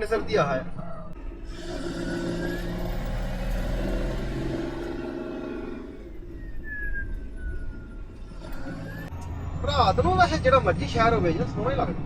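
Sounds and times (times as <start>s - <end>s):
road noise: 0.0s - 12.0s
truck engine drone: 1.2s - 12.0s.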